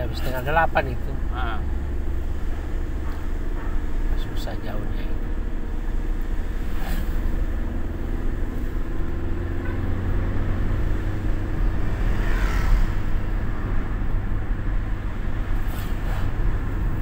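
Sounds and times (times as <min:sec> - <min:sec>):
car cabin road noise: 0:00.0 - 0:17.0.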